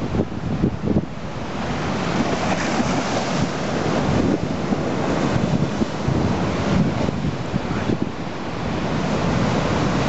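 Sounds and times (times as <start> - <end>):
wind buffeting microphone: 0.0 - 10.0
waves breaking against a wall: 0.9 - 10.0.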